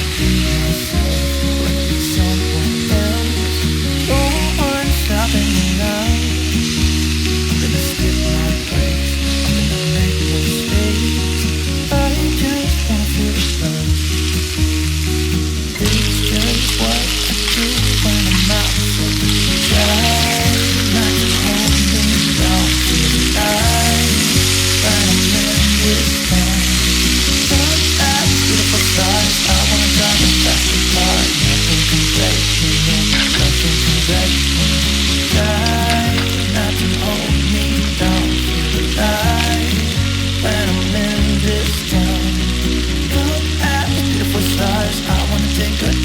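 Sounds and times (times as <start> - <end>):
background music with bass line: 0.0 - 46.0.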